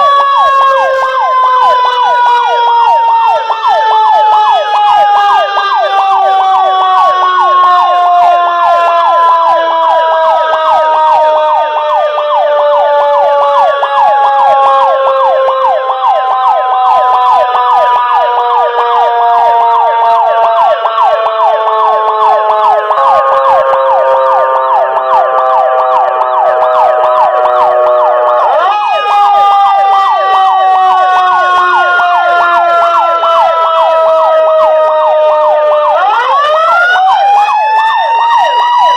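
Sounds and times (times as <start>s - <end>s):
fire engine sirens wailing: 0.0s - 38.9s
siren yelps: 0.0s - 38.9s.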